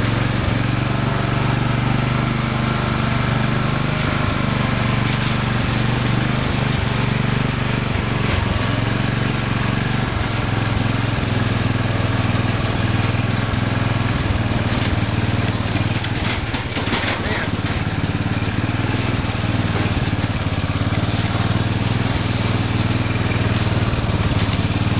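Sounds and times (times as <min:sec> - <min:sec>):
riding mower engine running: 0:00.0 - 0:24.9.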